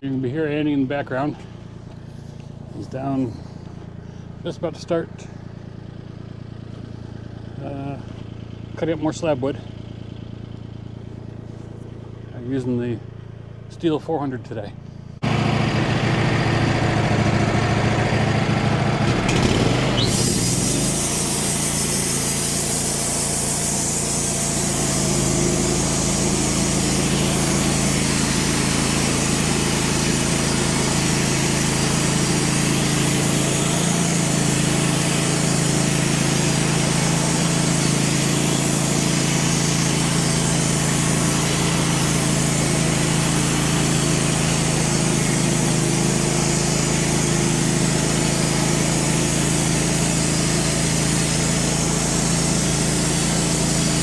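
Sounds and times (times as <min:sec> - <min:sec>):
bandsaw mill cutting log: 0:00.0 - 0:14.4, 0:15.2 - 0:54.0.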